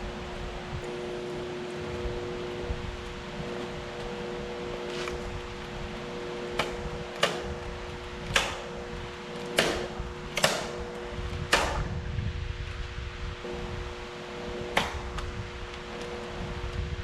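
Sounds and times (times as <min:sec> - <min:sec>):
low two-note hum: 0:00.0 - 0:17.0.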